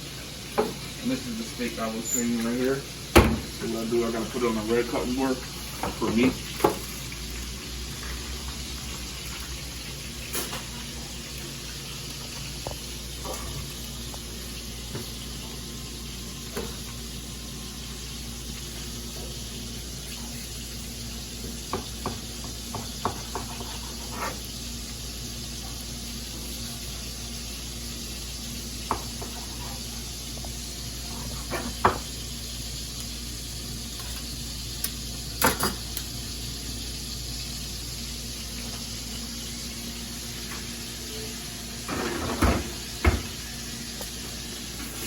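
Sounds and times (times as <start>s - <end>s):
shrimp sizzling in a pan: 0.0s - 45.0s.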